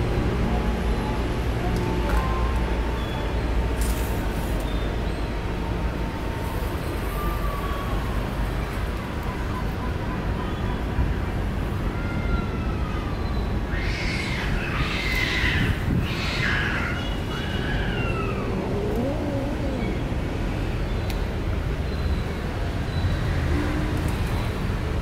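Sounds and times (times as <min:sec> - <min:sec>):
distant traffic rumble: 0:00.0 - 0:25.0.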